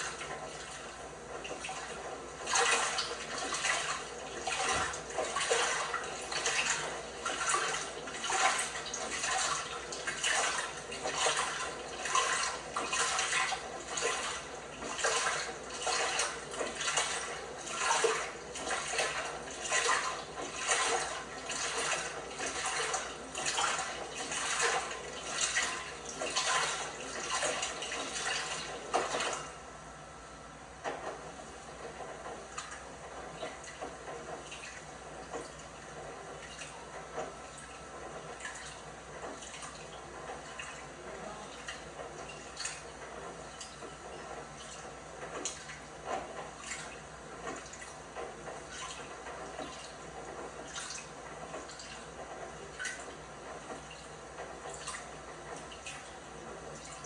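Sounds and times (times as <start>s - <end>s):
washing machine sloshing laundry: 0.0s - 57.0s.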